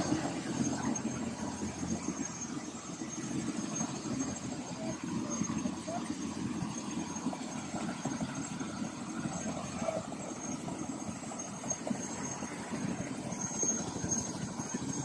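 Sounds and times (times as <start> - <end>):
faint high whine: 0.0 - 15.0
helicopter engine and rotor rumble: 0.0 - 15.0.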